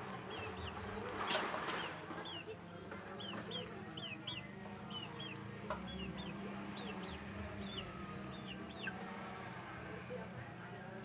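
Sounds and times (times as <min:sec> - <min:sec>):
chicks chirping: 0:00.1 - 0:09.2.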